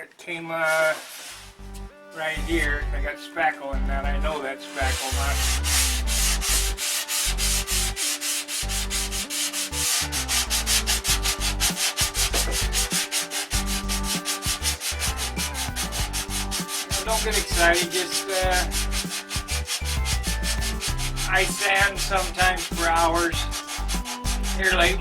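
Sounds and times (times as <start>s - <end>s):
sandpaper rubbing back and forth: 0.6s - 1.8s, 4.6s - 25.0s.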